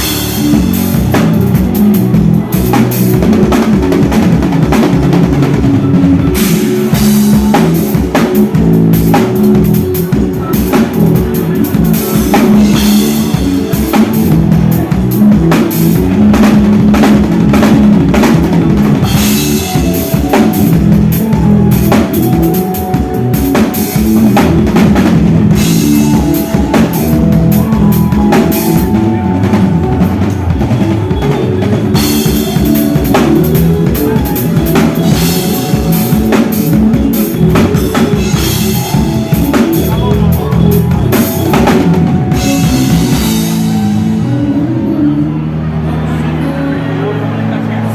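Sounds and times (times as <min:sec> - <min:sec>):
live band playing: 0:00.0 - 0:47.9.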